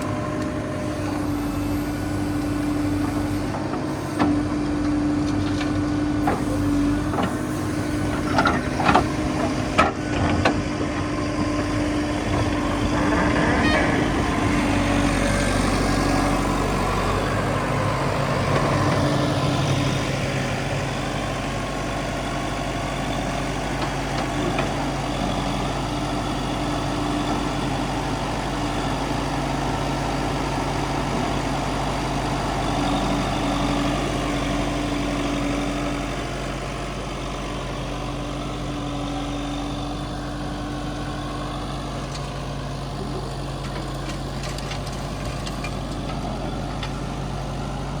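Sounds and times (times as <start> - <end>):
diesel engine running at low revs: 0.0 - 48.0.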